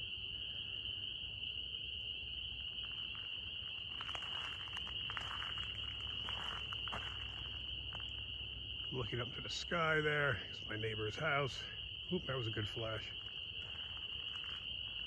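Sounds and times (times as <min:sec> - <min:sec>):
frogs calling faintly: 0:00.0 - 0:15.0
insects droning: 0:00.0 - 0:15.0.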